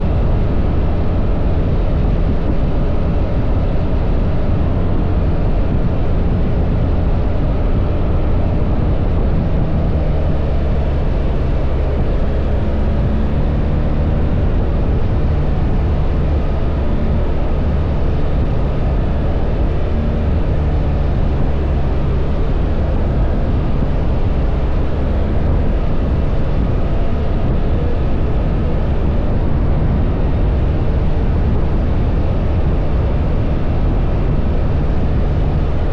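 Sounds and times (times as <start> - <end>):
motorcycle engine running: 0.0 - 35.9
wind noise: 0.0 - 35.9.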